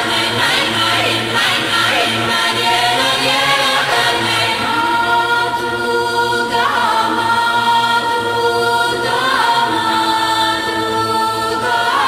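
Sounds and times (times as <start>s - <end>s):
choir singing sustained chords: 0.0s - 12.0s.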